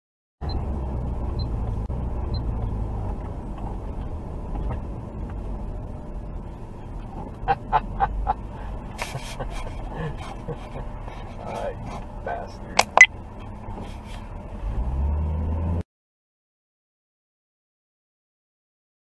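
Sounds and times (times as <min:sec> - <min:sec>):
car engine and road noise: 0:00.4 - 0:15.9.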